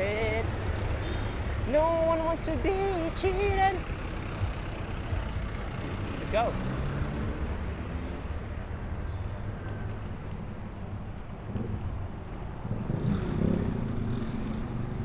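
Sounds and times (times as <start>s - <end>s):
motor vehicles running: 0.0s - 15.0s.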